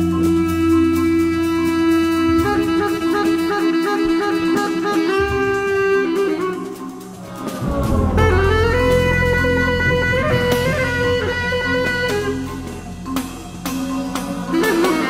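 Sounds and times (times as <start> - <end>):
jazz fusion band playing: 0.0 - 15.0.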